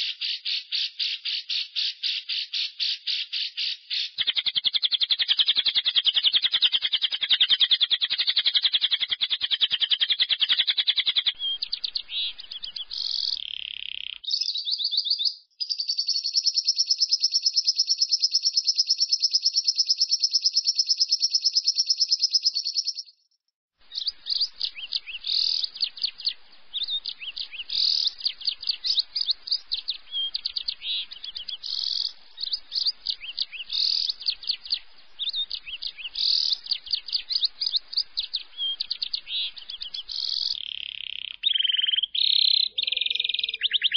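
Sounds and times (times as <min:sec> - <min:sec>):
bird chattering and squeaking: 0:00.0 - 0:23.0, 0:23.9 - 0:43.9
bird chirping trill: 0:00.0 - 0:43.9.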